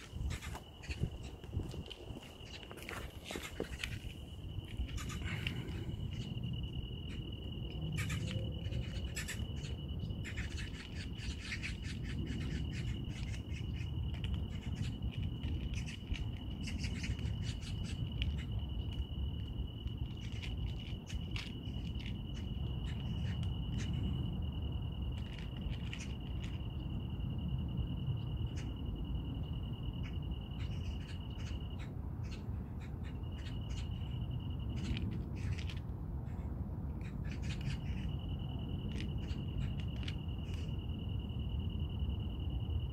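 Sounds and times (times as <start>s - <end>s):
insect trilling: 0.0s - 42.9s.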